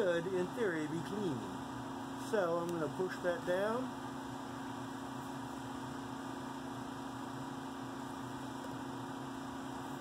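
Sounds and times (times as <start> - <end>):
electric fan hum: 0.0 - 10.0.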